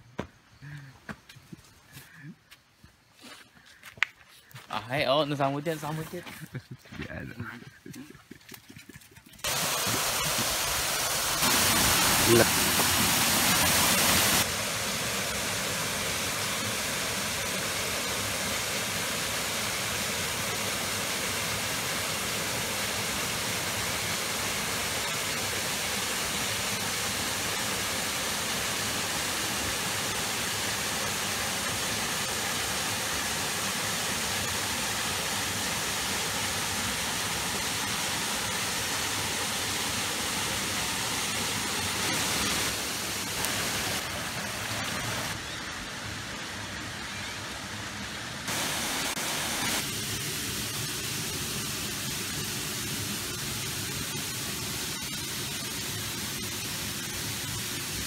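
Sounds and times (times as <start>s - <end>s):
waterfall rushing into pool: 9.4s - 58.0s.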